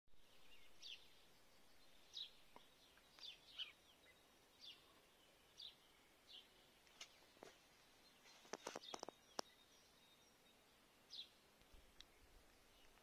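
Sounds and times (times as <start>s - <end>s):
faint bird chirps: 0.2s - 13.0s.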